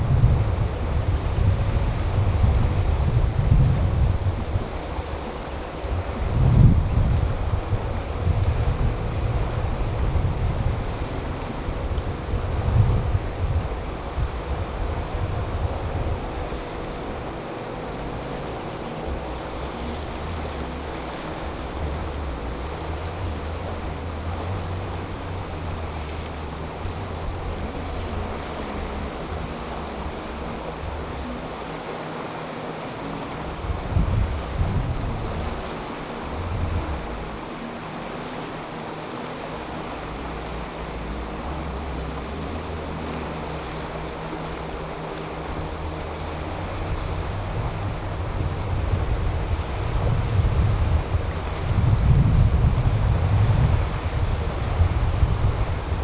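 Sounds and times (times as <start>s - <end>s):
high insect drone: 0.0s - 56.0s
wind buffeting microphone: 0.0s - 56.0s.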